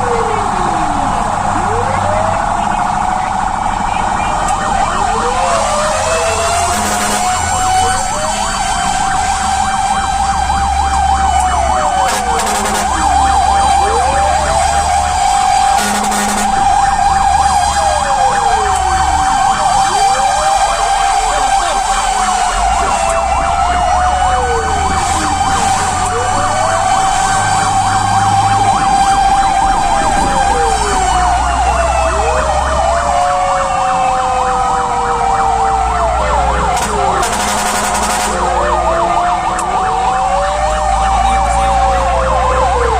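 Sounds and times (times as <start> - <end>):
fire engine siren wailing: 0.0 - 42.9
truck engine rumble: 0.0 - 42.9.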